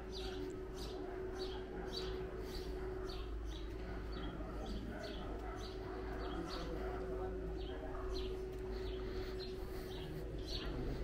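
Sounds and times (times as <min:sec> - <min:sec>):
small birds chirping: 0:00.0 - 0:11.0
steady hum: 0:00.0 - 0:11.0.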